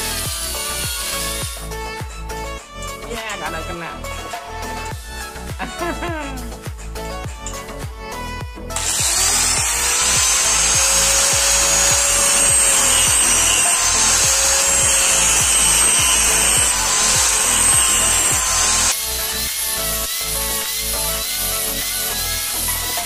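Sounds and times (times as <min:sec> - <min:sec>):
angle grinder grinding steel: 0:00.0 - 0:04.9, 0:08.7 - 0:23.0.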